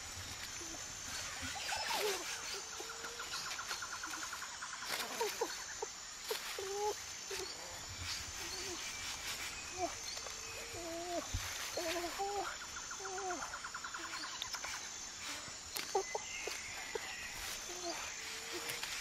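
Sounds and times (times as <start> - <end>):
dry leaves crackling: 0.0 - 19.0
high insect whine: 0.0 - 19.0.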